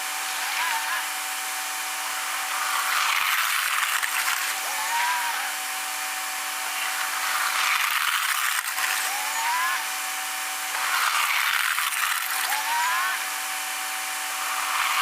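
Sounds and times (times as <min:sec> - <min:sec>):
rising motor whine: 0:00.0 - 0:15.0
snow plow mechanical hum: 0:00.0 - 0:15.0.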